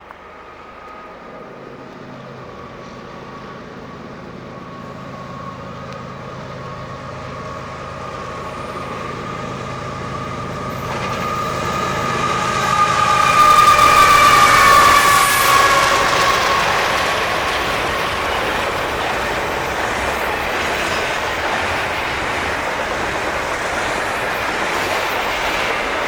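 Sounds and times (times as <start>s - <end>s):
diesel locomotive engine drone: 0.0s - 26.0s
steady high whine: 0.0s - 26.0s.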